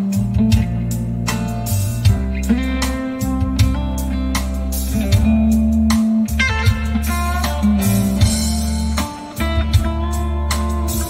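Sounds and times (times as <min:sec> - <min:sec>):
guitar-led music with bass: 0:00.0 - 0:11.0.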